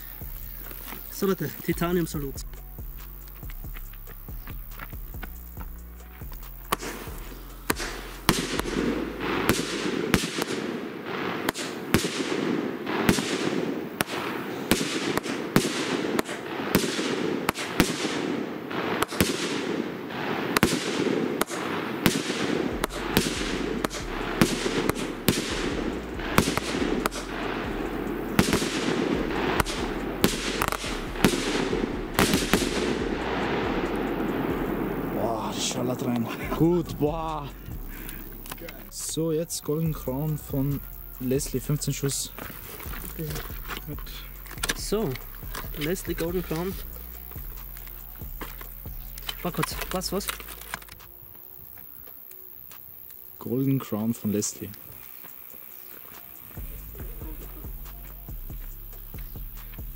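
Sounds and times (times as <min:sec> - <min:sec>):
firework bangs echoing: 0:00.0 - 0:50.3
steady background noise: 0:00.0 - 0:59.9.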